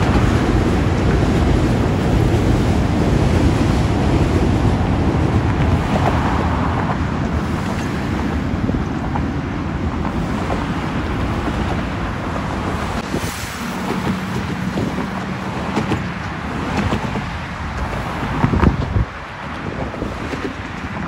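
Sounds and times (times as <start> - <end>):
road traffic rushing: 0.0 - 21.0
wind buffeting microphone: 0.0 - 21.0.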